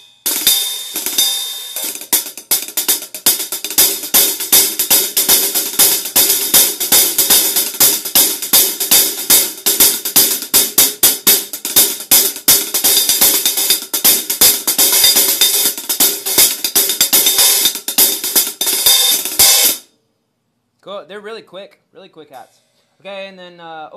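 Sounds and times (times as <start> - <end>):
hi-hats played with drumstick: 0.0 - 19.9.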